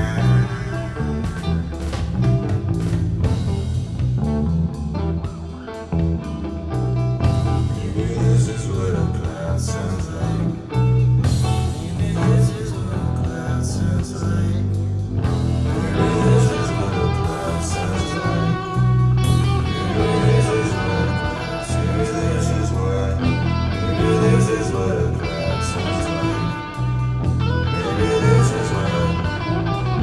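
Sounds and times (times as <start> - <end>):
guitar-led rock and blues music: 0.0 - 30.0.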